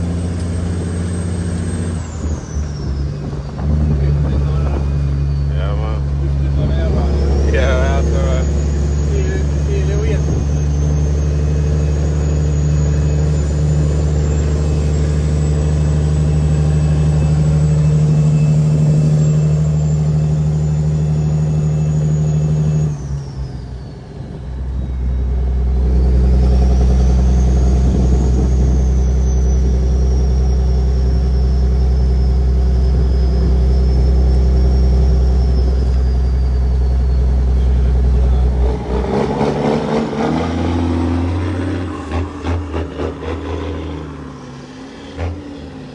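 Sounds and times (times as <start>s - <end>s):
diesel truck engine running: 0.0s - 45.9s
high turbo whistle: 0.0s - 45.9s.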